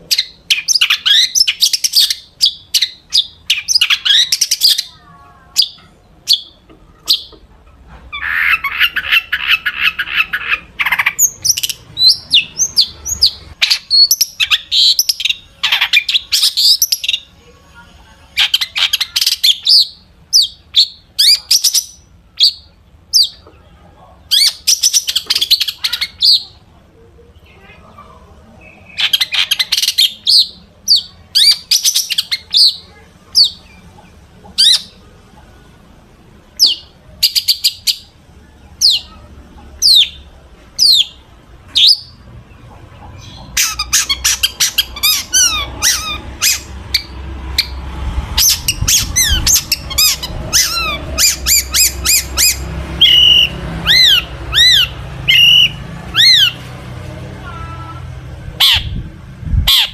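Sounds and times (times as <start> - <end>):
bird singing mimicked calls: 0.0 - 7.4, 8.1 - 17.4, 18.3 - 23.5, 24.3 - 26.6, 28.5 - 35.0, 36.6 - 38.1, 38.7 - 56.6, 57.4 - 59.9.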